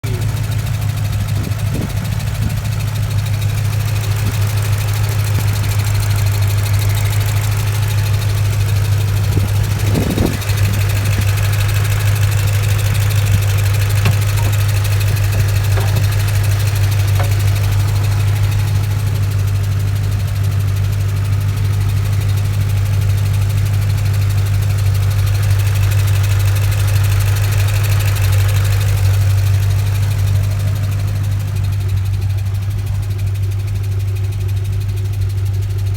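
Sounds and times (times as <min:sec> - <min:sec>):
car engine idling: 0:00.0 - 0:35.9
fast engine ticking: 0:00.0 - 0:35.9.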